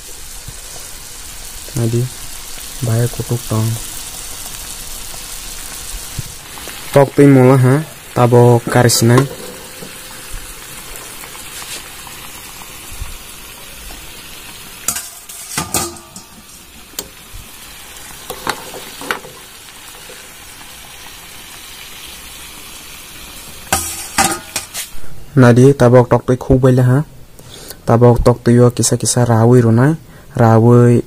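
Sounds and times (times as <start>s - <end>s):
water boiling in a pan: 0.0s - 25.0s.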